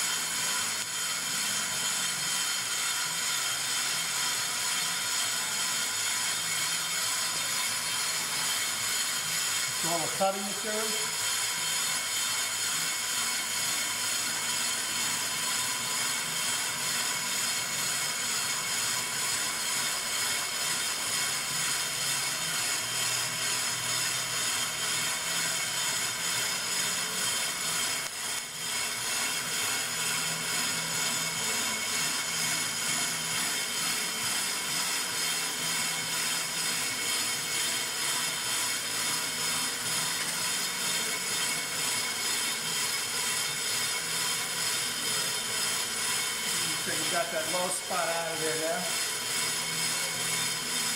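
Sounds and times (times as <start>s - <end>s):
brake lathe humming and whining: 0.0s - 50.9s.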